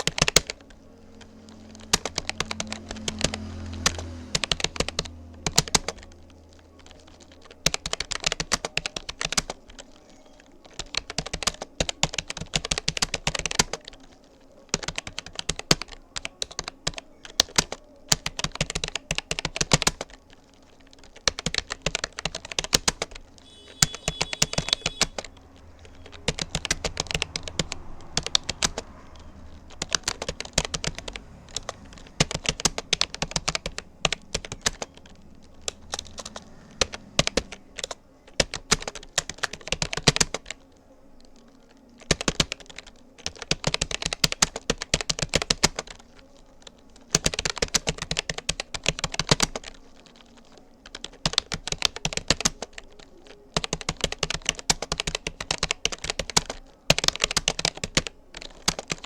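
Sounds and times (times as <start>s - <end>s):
rapid typing on computer keyboard: 0.0s - 59.0s.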